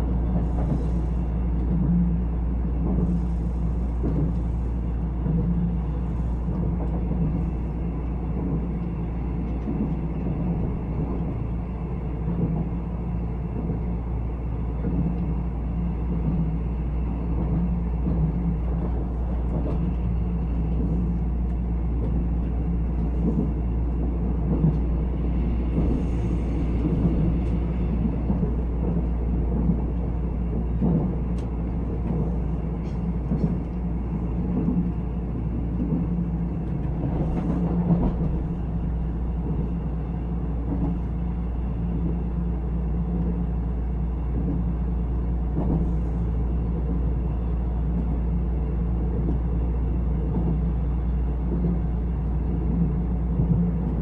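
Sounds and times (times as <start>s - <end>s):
train rumbling inside carriage: 0.0s - 54.0s.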